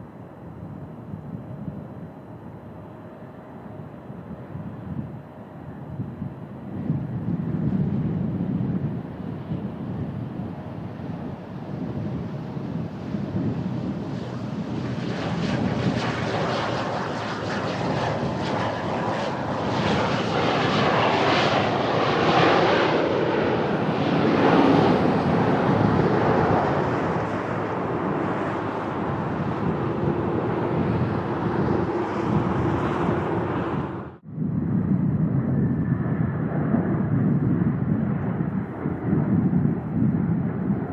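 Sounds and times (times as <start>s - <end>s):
turboprop plane passing: 0.0s - 40.9s.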